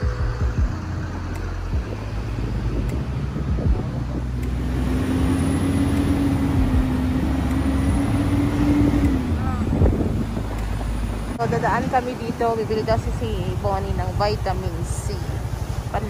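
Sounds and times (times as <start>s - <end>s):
motorcycle engine rumble: 0.0s - 16.0s
steady engine drone: 0.0s - 16.0s.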